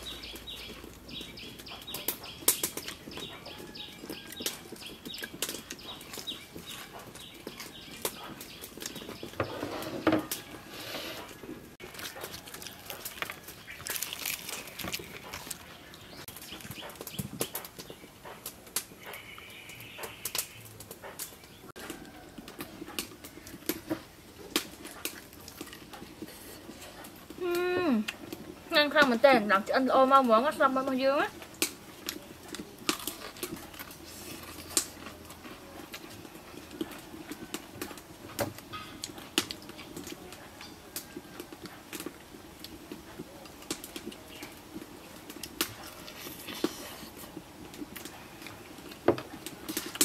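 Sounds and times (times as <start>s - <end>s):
crunching and chewing fried chicken: 0.0s - 50.0s.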